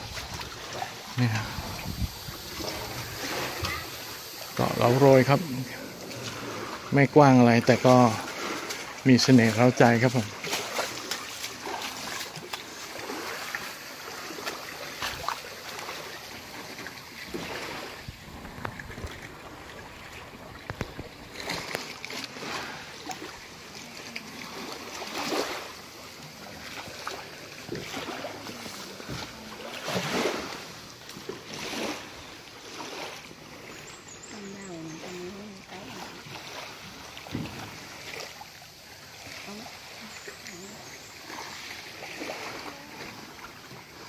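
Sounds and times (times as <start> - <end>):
small waves lapping: 0.0 - 44.0.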